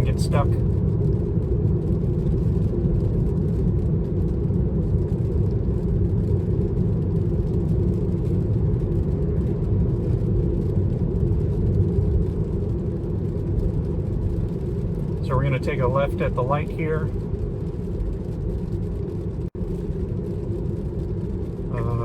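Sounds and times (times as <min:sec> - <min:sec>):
road and tyre noise: 0:00.0 - 0:22.0.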